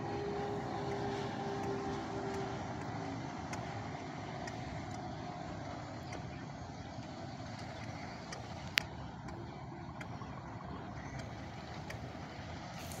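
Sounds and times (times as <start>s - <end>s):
speedboat outboard motors droning: 0.0s - 13.0s.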